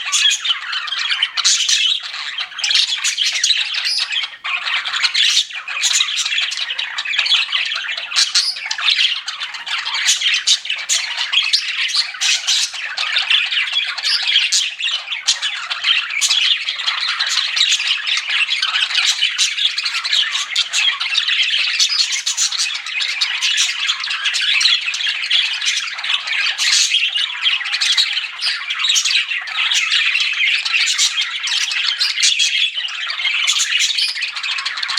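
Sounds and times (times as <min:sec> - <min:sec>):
budgies chattering and chirping: 0:00.0 - 0:34.9.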